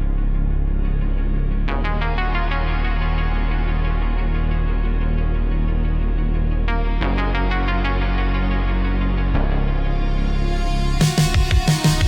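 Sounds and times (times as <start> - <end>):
steady bass: 0.0 - 12.0
synthesizer pads: 0.0 - 12.0.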